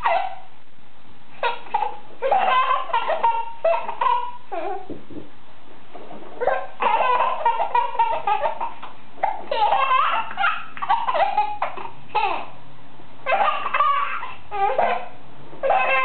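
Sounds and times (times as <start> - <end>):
baby laughing: 0.0 - 0.4, 1.4 - 5.0, 6.4 - 12.6, 13.2 - 16.0.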